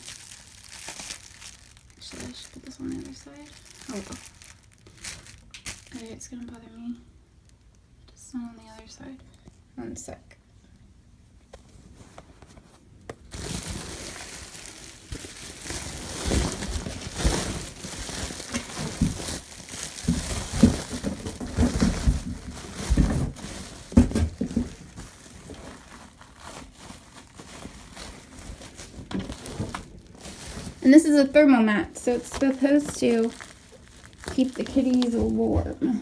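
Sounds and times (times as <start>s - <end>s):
blankets rustling and crinkling: 0.0s - 6.4s, 11.4s - 36.0s.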